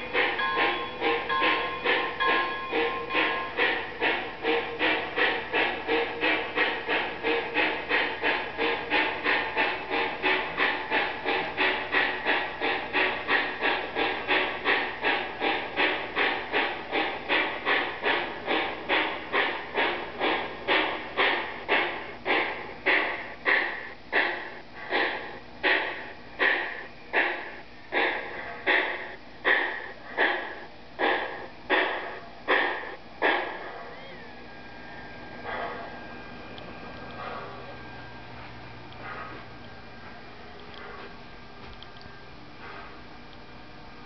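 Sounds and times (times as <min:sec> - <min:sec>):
model steam locomotive chuffing: 0:00.0 - 0:41.6.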